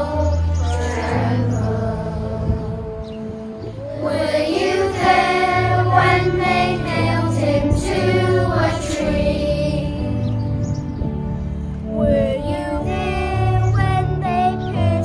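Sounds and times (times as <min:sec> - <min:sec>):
children's choir singing: 0:00.0 - 0:10.5, 0:12.0 - 0:15.0.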